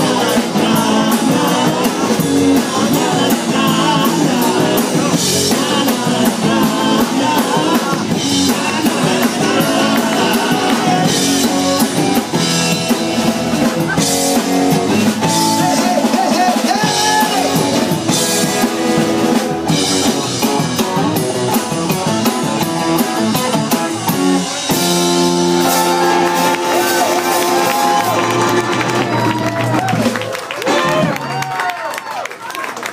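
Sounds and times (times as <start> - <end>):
drum kit: 0.0 - 31.5
electric guitars: 0.0 - 31.6
bass guitar: 0.0 - 31.7.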